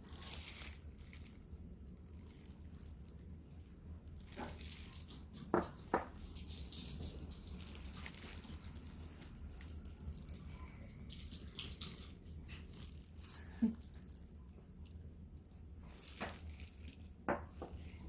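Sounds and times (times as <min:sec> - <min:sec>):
faint rustling and handling: 0:00.0 - 0:18.0
low steady hum: 0:00.0 - 0:18.0.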